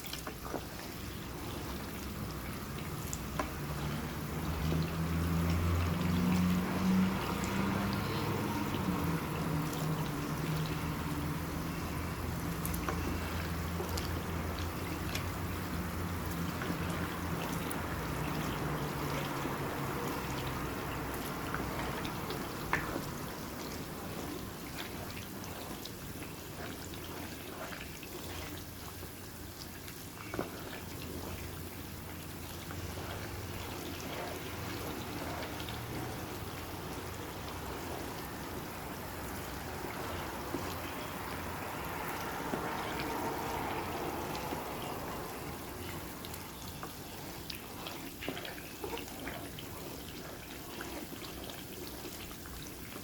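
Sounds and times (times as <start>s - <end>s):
oil bubbling and sizzling in a pan: 0.0s - 53.0s.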